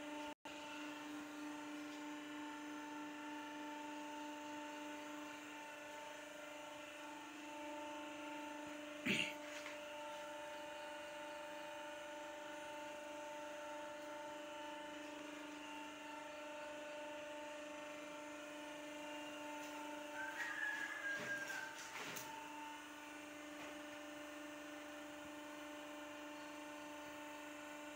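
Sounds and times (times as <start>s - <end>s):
faint machine hum: 0.0s - 27.9s.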